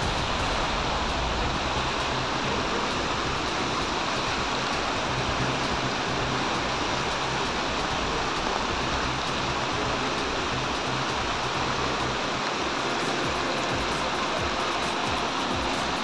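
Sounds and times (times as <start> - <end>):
flowing water rushing along street: 0.0 - 16.0.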